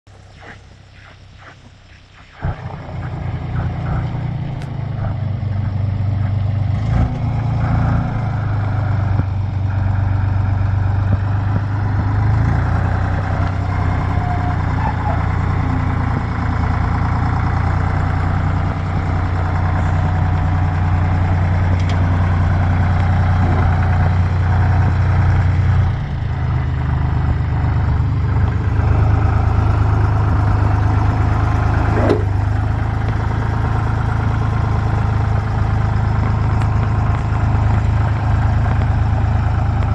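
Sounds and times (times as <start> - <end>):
tractor diesel engine idling: 0.1 - 39.9.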